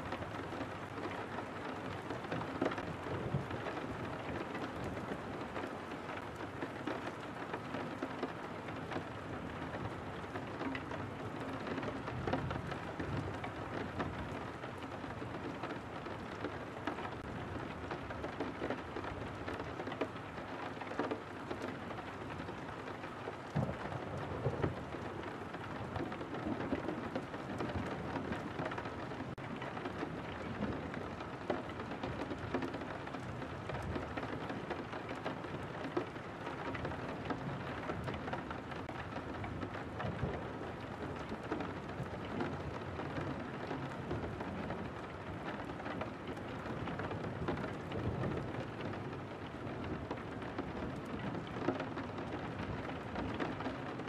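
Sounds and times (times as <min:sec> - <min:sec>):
rain tapping on window glass: 0:00.0 - 0:54.0.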